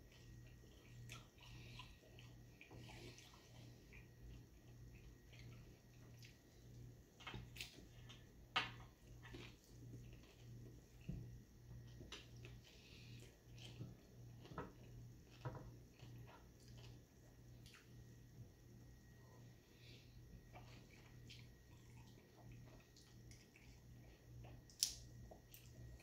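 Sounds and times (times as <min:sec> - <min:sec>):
low hum: 0:00.0 - 0:26.0
quiet chewing: 0:00.0 - 0:26.0.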